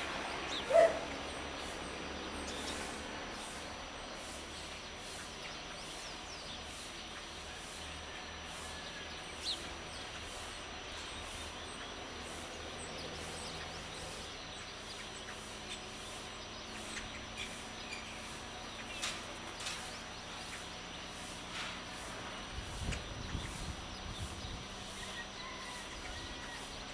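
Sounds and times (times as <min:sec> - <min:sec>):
small birds chirping: 0:00.0 - 0:26.9
steady background hum: 0:00.0 - 0:26.9.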